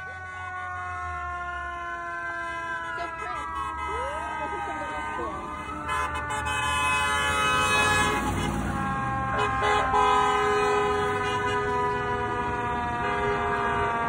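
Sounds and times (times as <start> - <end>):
car horns honking: 1.7 - 14.0.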